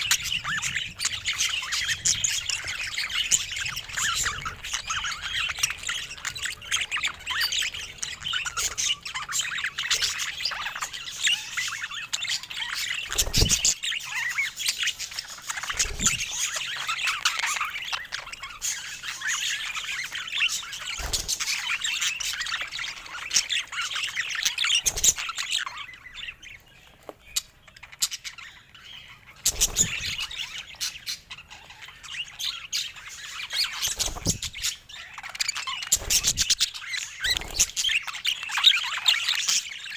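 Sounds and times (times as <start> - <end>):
budgies chirping and warbling: 0.0 - 39.9.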